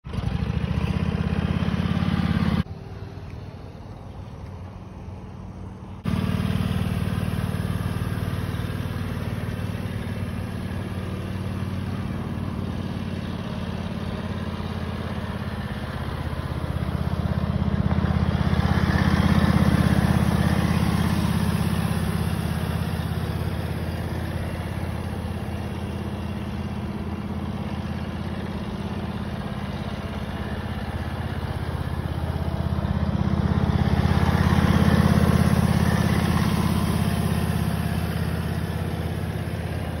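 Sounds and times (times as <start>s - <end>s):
utility vehicle engine running: 0.0s - 40.0s
drag scraping dirt: 0.1s - 40.0s.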